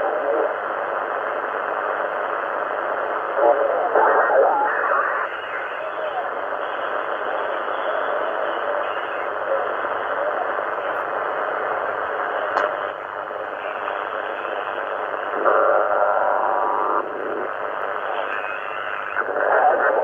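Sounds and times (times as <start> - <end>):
radio signal breaking through: 0.0 - 20.0
radio static hiss: 0.0 - 20.0.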